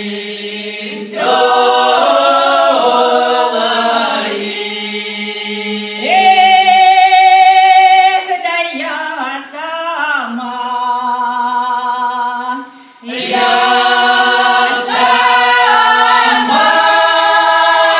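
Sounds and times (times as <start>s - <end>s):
folk ensemble singing a cappella: 0.0s - 8.4s, 10.2s - 17.9s.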